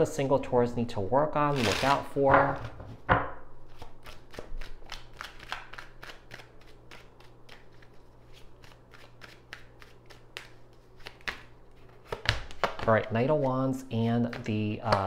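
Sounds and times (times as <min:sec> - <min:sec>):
cards being shuffled: 0:01.5 - 0:02.8, 0:03.7 - 0:15.0.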